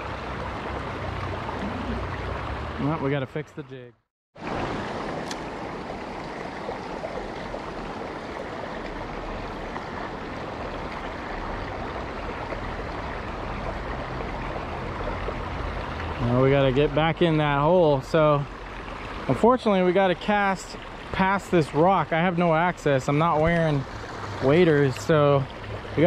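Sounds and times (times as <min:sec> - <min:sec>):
creek water running over rocks: 0:00.0 - 0:03.4, 0:04.4 - 0:26.0.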